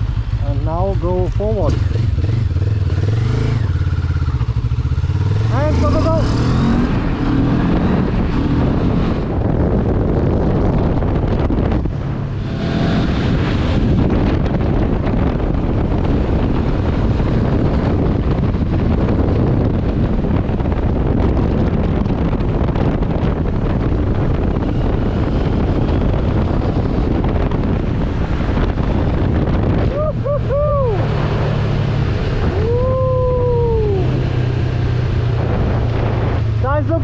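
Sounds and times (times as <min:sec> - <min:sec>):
motorcycle engine humming: 0:00.0 - 0:37.0
wind rushing over microphone: 0:00.0 - 0:37.0.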